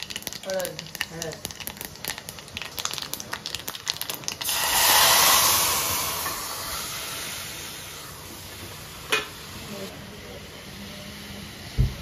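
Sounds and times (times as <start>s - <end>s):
spices crackling in hot oil: 0.0s - 11.6s
loud sizzle of liquid poured in: 0.0s - 12.0s.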